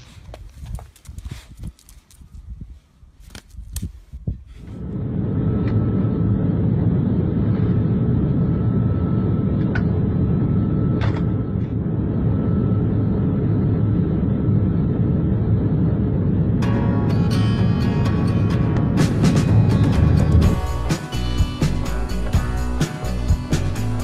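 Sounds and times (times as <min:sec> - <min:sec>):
airliner cabin drone: 0:04.5 - 0:24.0.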